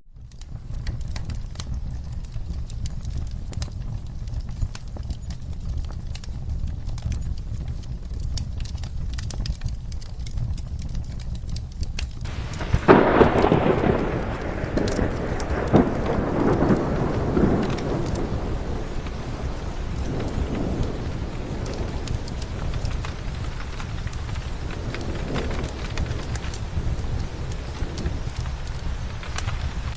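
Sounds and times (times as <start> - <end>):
fireplace fire crackling: 0.0 - 29.9
steady rain: 0.1 - 29.9
thunderclap rolling: 0.1 - 29.9.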